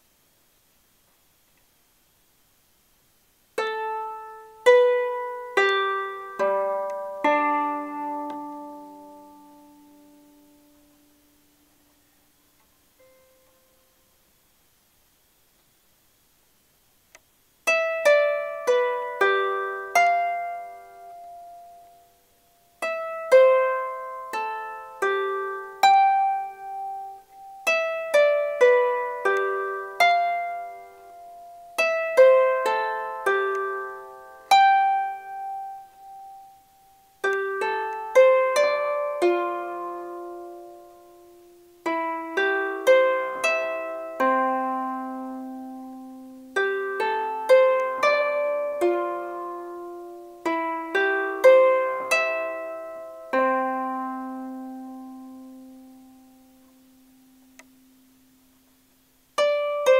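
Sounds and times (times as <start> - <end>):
small harp plucked melody: 3.6 - 12.0, 12.6 - 13.9, 17.6 - 59.9.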